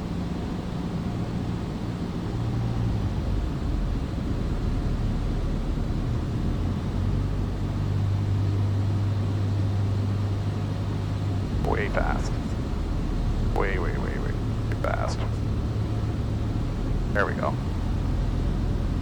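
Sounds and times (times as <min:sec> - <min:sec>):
airplane engine droning: 0:00.0 - 0:19.0.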